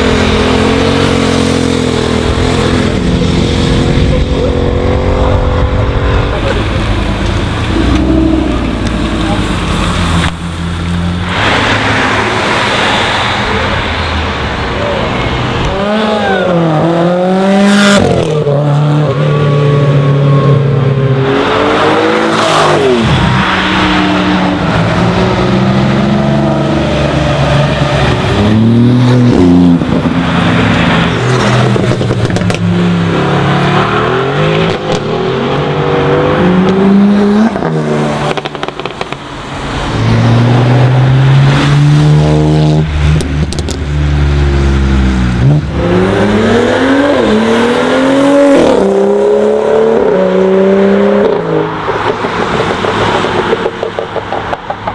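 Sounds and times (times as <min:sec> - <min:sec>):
sports car engines accelerating: 0:00.0 - 0:54.9.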